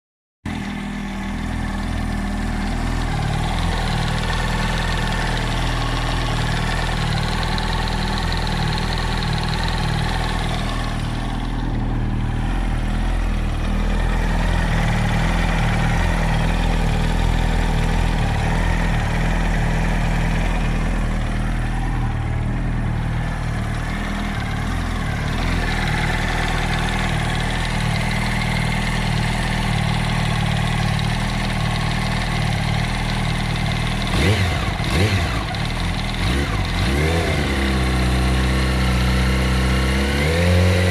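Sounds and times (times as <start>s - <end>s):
engine knocking: 0.5s - 40.9s
motorcycle engine idling: 0.5s - 40.9s.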